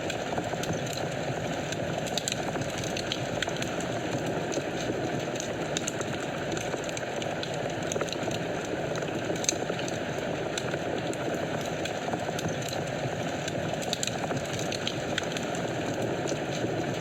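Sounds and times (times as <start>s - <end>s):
fire burning: 0.0s - 17.0s
fire crackles and pops: 0.0s - 17.0s.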